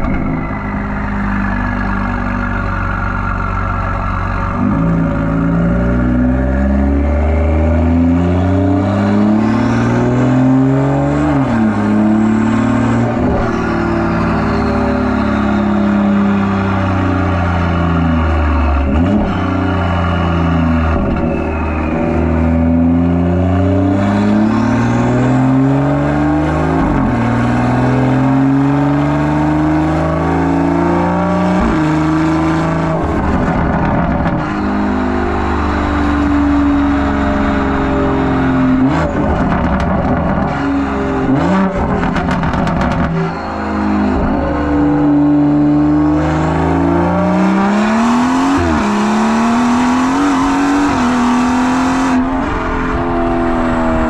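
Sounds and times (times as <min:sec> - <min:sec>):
car exhaust accelerating and shifting: 0:00.0 - 0:54.0.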